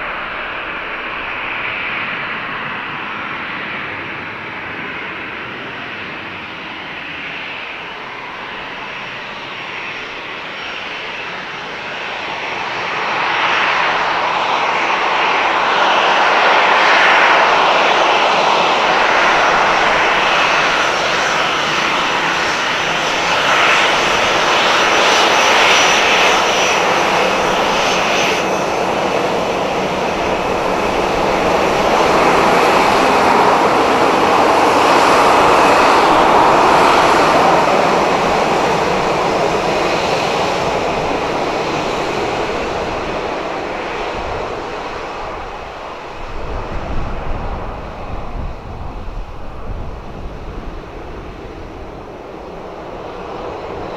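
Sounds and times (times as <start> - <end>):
jet engines taxiing: 0.0 - 53.9.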